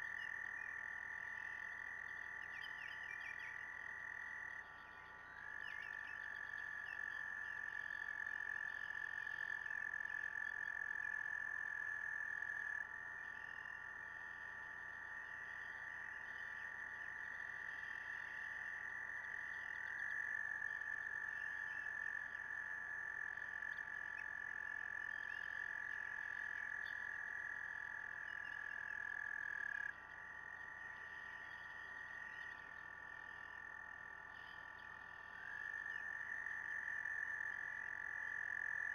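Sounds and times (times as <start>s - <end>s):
frogs trilling: 0.0s - 38.9s.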